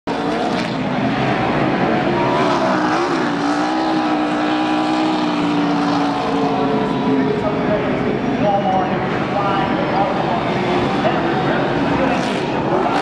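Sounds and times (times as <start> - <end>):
race car engine revving: 0.1 - 13.0.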